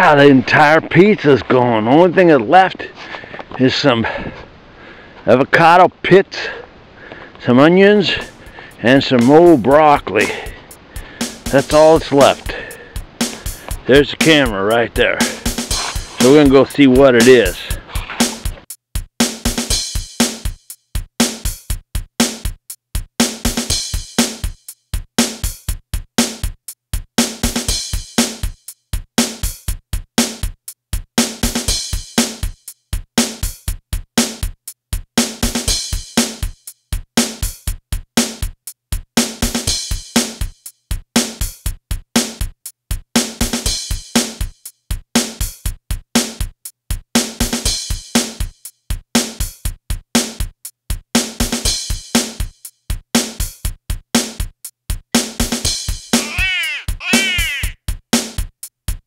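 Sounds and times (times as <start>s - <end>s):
drum machine beat: 8.2s - 59.0s.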